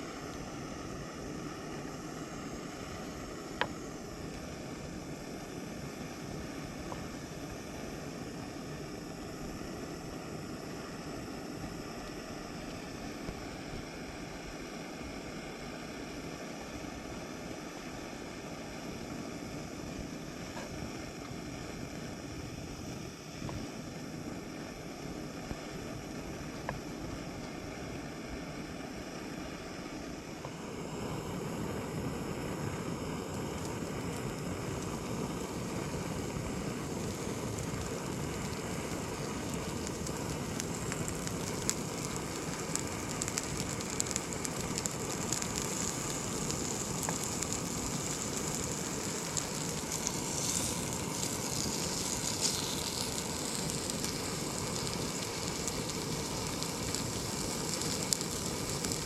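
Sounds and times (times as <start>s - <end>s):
campfire crackling and hissing: 0.0s - 59.0s.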